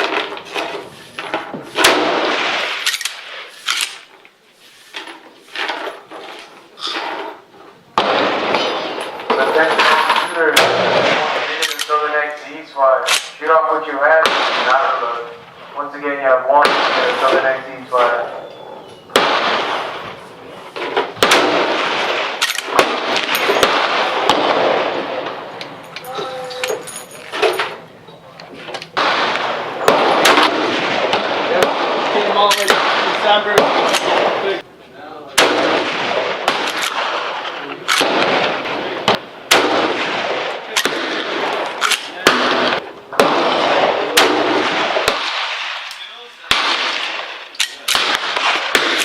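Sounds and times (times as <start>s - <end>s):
gunshots with long echo: 0.0s - 4.1s, 7.9s - 25.9s, 28.9s - 34.6s, 35.3s - 49.0s.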